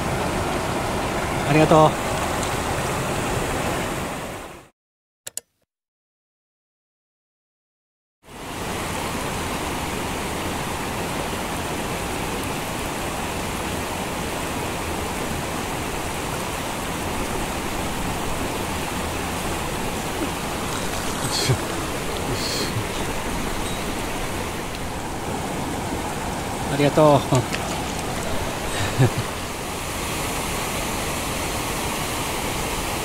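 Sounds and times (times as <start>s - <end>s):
mountain stream rushing: 0.0s - 4.7s, 8.3s - 33.0s.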